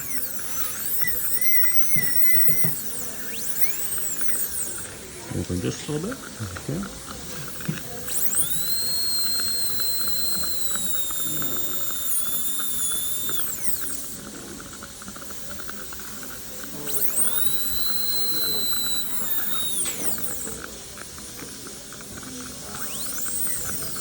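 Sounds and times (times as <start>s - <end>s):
dental drill whining: 0.0s - 24.0s.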